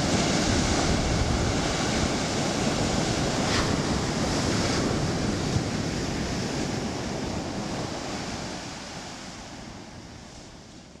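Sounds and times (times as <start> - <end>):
ocean surf breaking on beach: 0.0 - 11.0.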